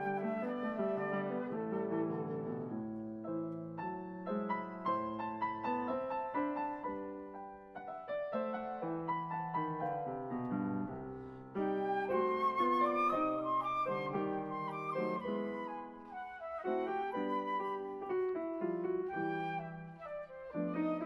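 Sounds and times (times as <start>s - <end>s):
solo classical piano: 0.0s - 21.0s.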